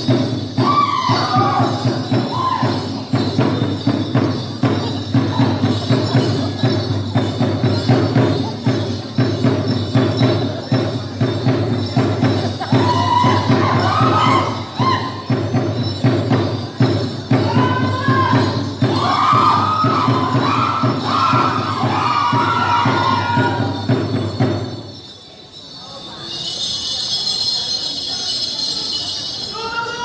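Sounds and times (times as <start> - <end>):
rapid drum beats: 0.0 - 25.1
jingling percussion: 0.0 - 30.0.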